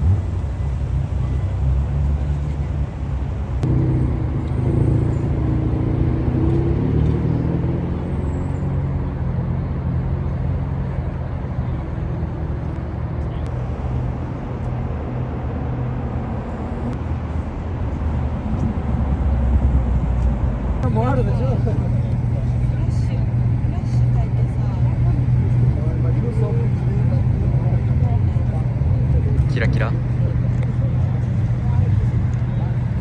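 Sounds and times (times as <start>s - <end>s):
car engines running: 0.0s - 33.0s.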